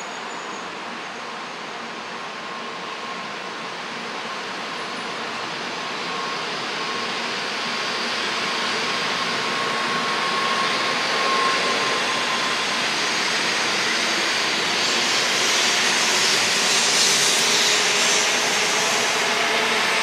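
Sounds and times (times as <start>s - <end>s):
high-speed train rushing: 0.0s - 20.0s.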